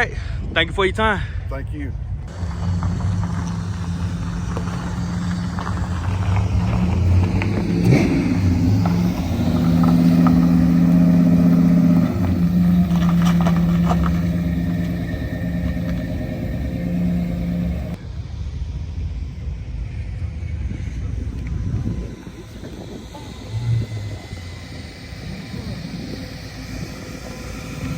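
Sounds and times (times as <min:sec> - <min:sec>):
car engines running: 0:00.0 - 0:27.9
car engine revving: 0:02.2 - 0:19.7, 0:20.7 - 0:27.9.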